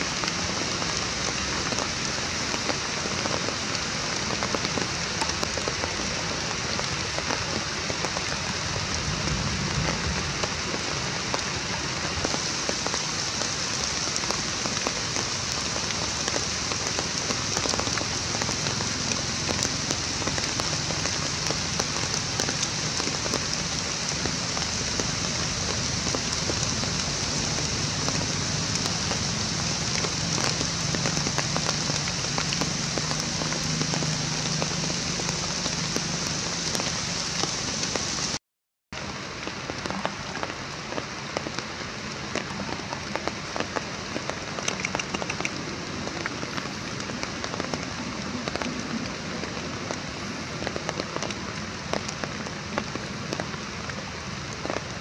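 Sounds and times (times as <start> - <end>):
steady rain on leaves: 0.0 - 55.0.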